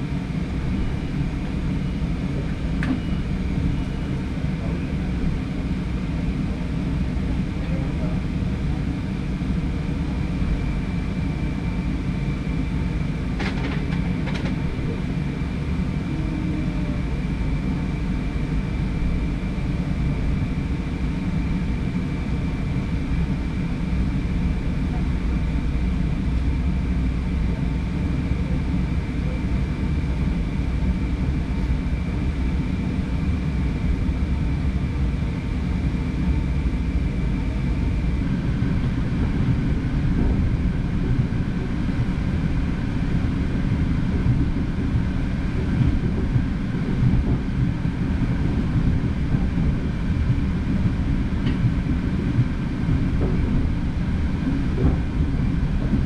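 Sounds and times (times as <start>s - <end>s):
faint steady whine: 0.0s - 56.0s
train wheels rumbling on rail: 0.0s - 56.0s.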